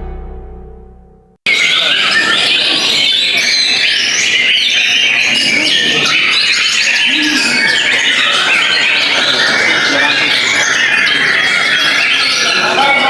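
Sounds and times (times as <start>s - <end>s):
songbirds whistling and chirping: 1.5s - 13.0s.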